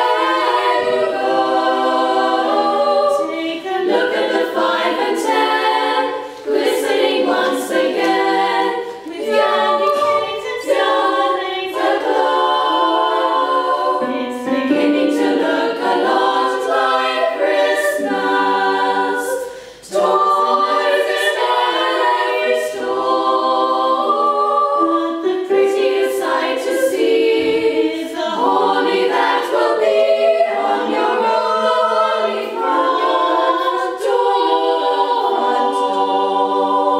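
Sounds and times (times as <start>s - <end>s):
girls singing in harmony: 0.0s - 36.9s.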